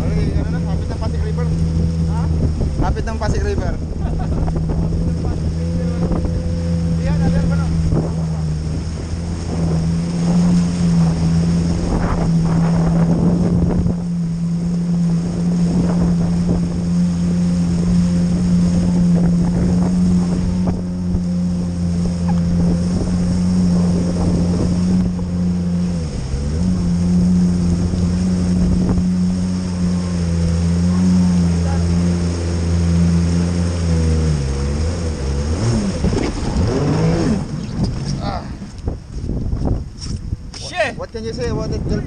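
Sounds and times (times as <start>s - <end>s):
jet ski engine running: 0.0s - 42.0s
water rushing and splashing: 0.0s - 42.0s
wind on microphone: 0.0s - 42.0s.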